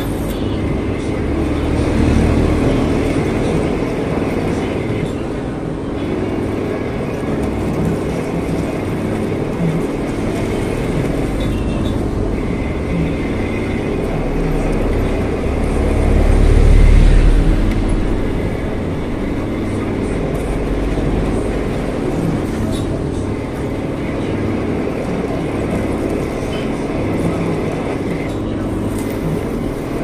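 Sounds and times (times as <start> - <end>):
deeper rumble: 0.0 - 30.0
metal lathe running: 0.0 - 30.0.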